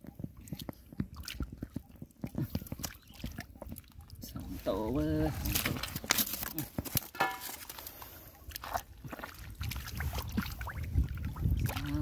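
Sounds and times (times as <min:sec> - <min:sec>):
hands splashing in muddy water: 0:00.4 - 0:12.0.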